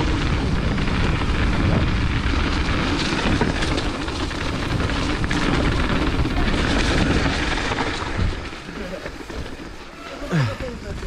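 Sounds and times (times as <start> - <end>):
bike rattling over bumps: 0.0 - 11.0
tyres rumbling on dirt: 0.0 - 11.0
wind rushing over microphone: 0.0 - 11.0.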